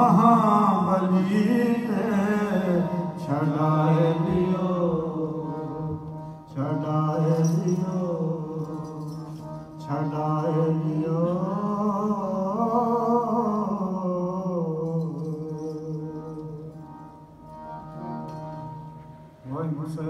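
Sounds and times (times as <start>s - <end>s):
harmonium drone: 0.0s - 20.0s.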